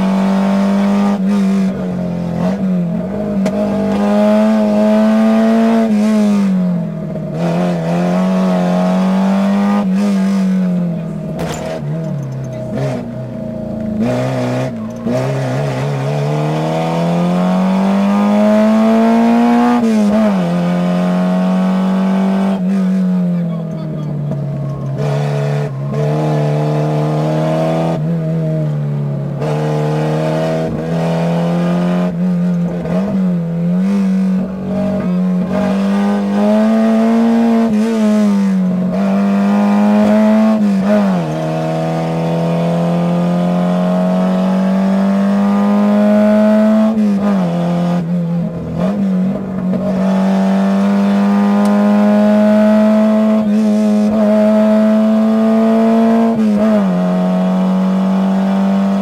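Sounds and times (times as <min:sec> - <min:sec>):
rally car engine at high revs: 0:00.0 - 0:59.0.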